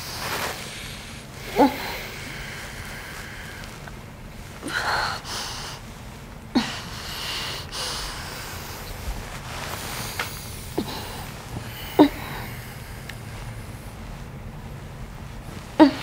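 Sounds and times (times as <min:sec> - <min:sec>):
person breathing in sleep: 0:00.0 - 0:14.2.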